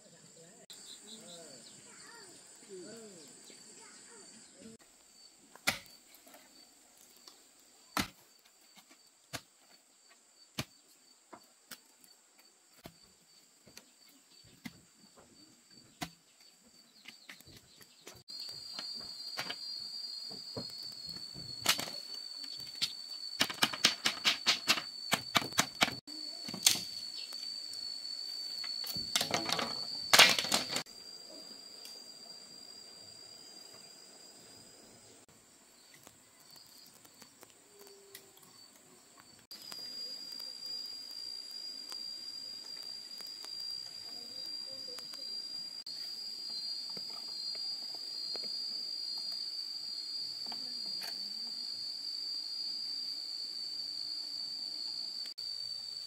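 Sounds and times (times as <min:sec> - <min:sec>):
high insect trill: 0:00.0 - 0:56.0.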